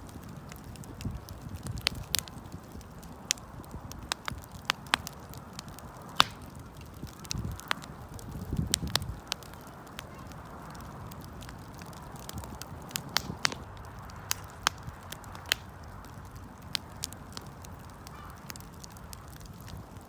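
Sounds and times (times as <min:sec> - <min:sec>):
burning wood crackling and popping: 0:00.0 - 0:20.0
flames rushing: 0:00.0 - 0:20.0.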